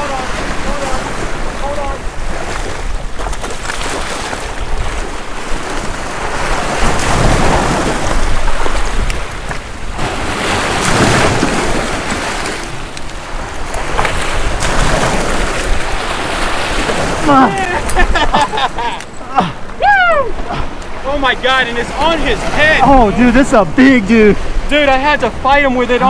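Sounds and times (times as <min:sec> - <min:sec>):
surf washing over rocks: 0:00.0 - 0:26.0.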